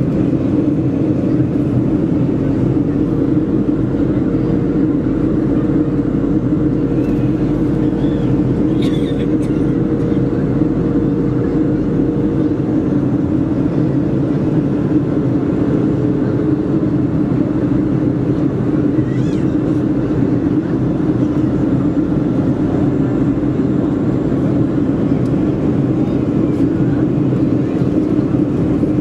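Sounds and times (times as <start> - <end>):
airflow around fuselage: 0.0 - 29.0
jet engine drone in cabin: 0.0 - 29.0.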